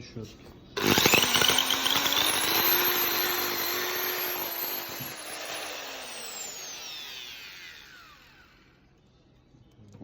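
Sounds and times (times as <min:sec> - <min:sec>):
electric drill motor whine: 0:00.8 - 0:08.9.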